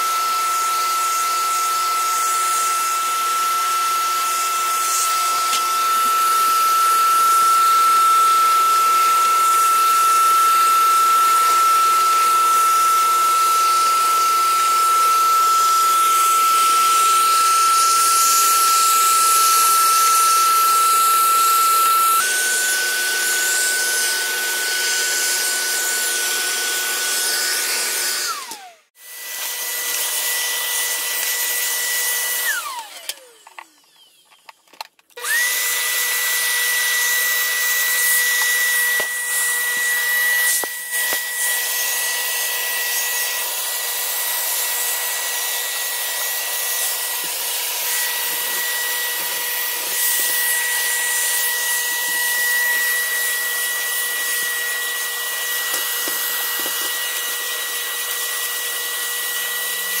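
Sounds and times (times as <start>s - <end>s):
vacuum cleaner motor whine: 0.0s - 60.0s.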